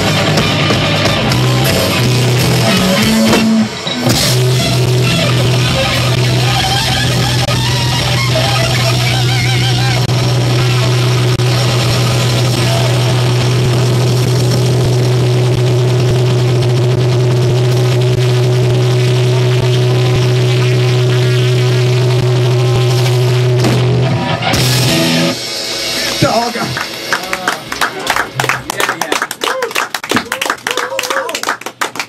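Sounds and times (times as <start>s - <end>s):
wavering guitar tones: 0.0s - 27.8s
distorted guitar and bass drone: 0.0s - 29.4s
rock band playing: 0.0s - 30.1s.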